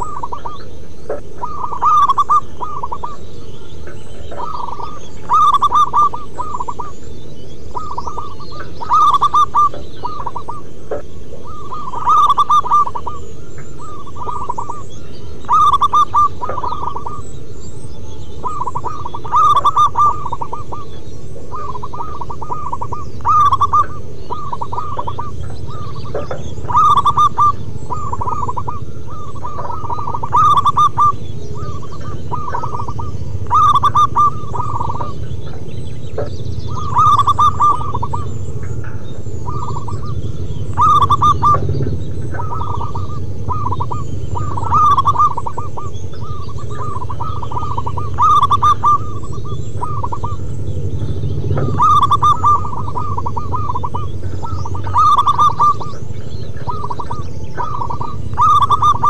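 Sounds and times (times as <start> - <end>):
doves cooing: 0.0 - 59.0
steady low rumble: 0.0 - 59.0.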